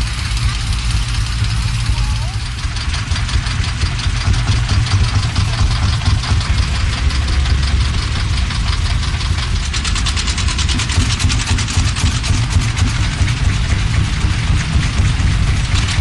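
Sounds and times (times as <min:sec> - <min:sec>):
diesel tractor engines idling: 0:00.0 - 0:16.0
rapid even engine chugging: 0:00.0 - 0:16.0.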